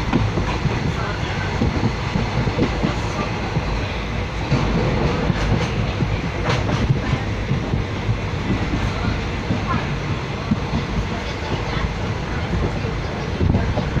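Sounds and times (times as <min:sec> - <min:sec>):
sharp clacks of train: 0:00.0 - 0:14.0
train wheels rumbling on track: 0:00.0 - 0:14.0.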